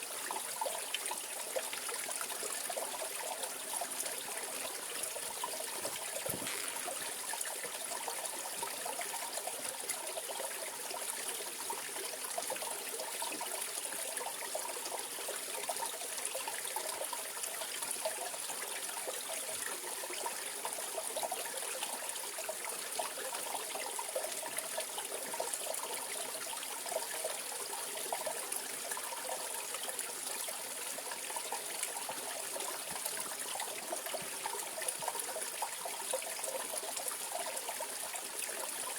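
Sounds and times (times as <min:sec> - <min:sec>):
stream flowing: 0:00.2 - 0:38.9.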